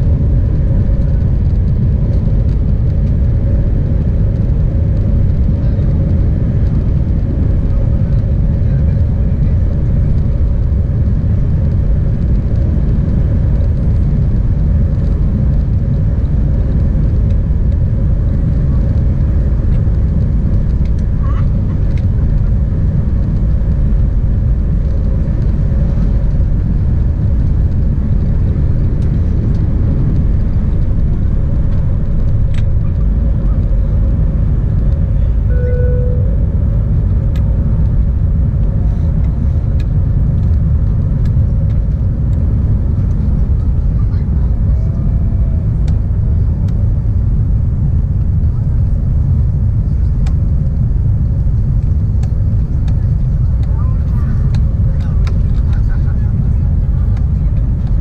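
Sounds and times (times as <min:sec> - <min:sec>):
jet engines at takeoff: 0:00.0 - 0:58.0.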